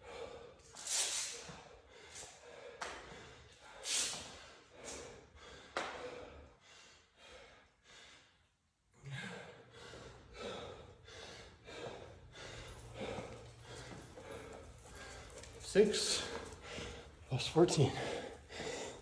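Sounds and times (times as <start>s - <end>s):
man gasping breaths: 0.0s - 19.0s.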